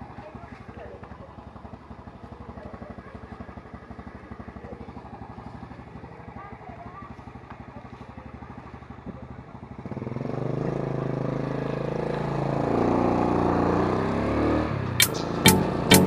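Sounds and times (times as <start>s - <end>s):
small motorcycle engine: 0.0s - 16.0s.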